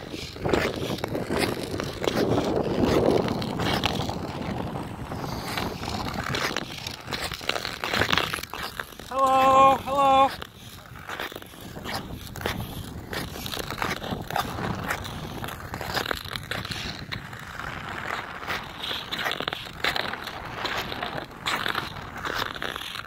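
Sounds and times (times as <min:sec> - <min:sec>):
skate blades scraping ice: 0:00.0 - 0:23.0.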